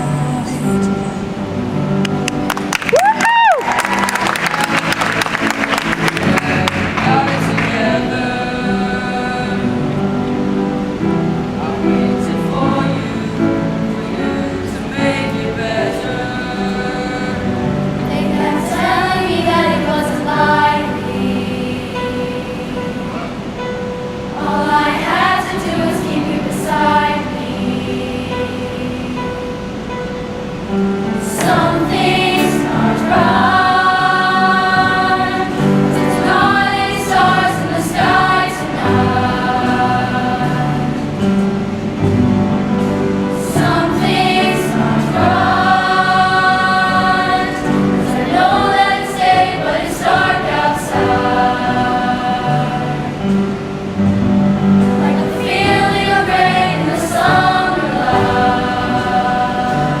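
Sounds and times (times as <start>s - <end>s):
choir singing: 0.0s - 2.0s, 3.7s - 60.0s
instrumental accompaniment: 0.0s - 60.0s.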